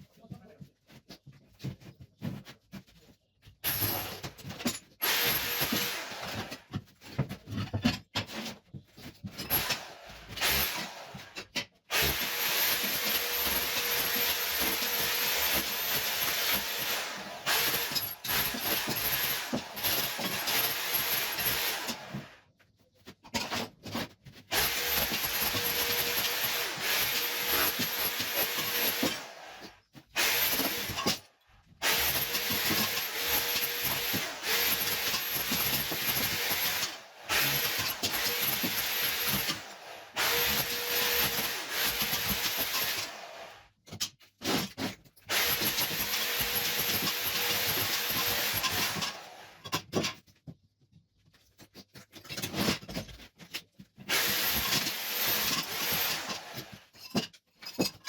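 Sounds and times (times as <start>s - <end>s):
power tool chipping tiles: 3.6s - 22.4s, 23.3s - 50.2s, 51.7s - 58.0s.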